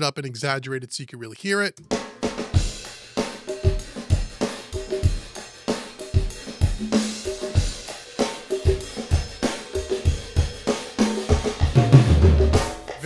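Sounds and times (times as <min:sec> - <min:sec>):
drum kit with heavy reverb: 0:01.9 - 0:13.0.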